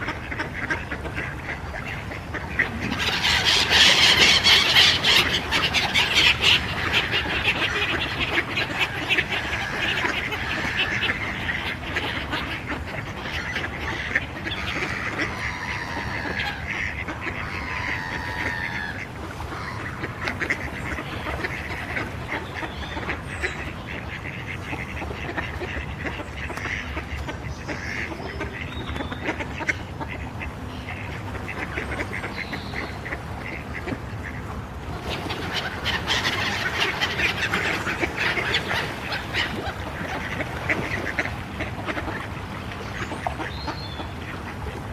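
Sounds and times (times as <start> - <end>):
ducks quacking: 0.0 - 44.9
gulls calling: 0.0 - 44.9.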